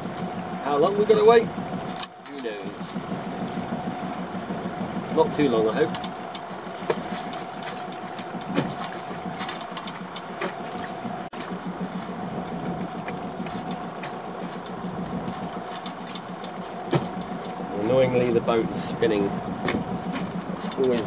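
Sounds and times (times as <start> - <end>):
boat engine idling: 0.0 - 21.0
light clicks and knocks: 1.2 - 18.6, 19.6 - 21.0.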